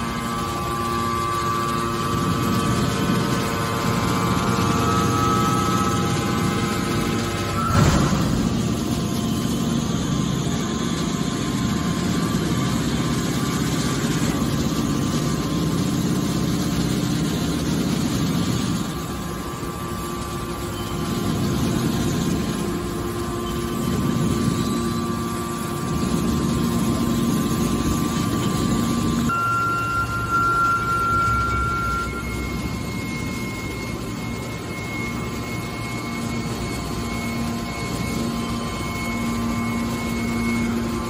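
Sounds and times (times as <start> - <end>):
hydraulic baler humming: 0.0 - 41.0.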